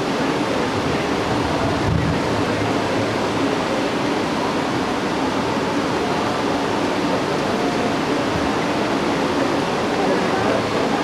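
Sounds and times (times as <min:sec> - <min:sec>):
water rushing from waterfall: 0:00.0 - 0:11.0.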